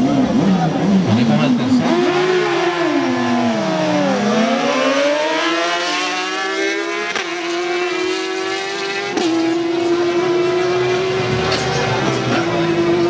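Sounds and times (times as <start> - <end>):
motorcycle engines accelerating: 0.0 - 13.0.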